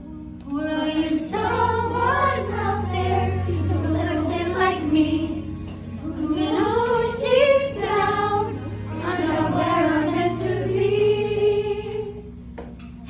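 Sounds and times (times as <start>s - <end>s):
children's choir singing: 0.5s - 12.3s.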